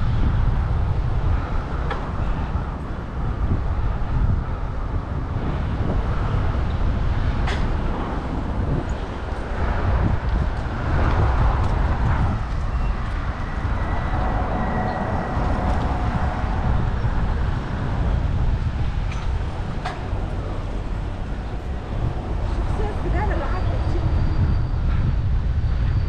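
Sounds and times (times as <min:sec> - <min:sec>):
traffic and road noise: 0:00.0 - 0:26.0
wind rumble on microphone: 0:00.0 - 0:26.0.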